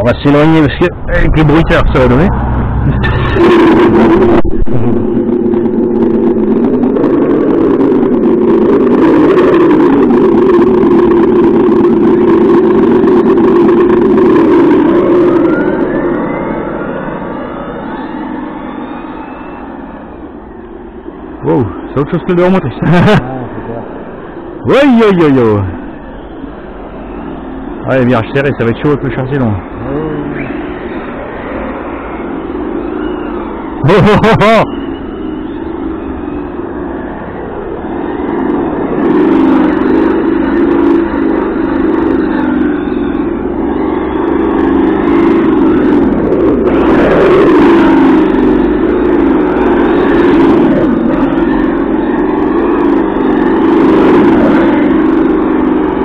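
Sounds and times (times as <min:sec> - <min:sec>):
rising whines: 0:00.0 - 0:56.0
simulated engine sound from speaker: 0:00.0 - 0:56.0.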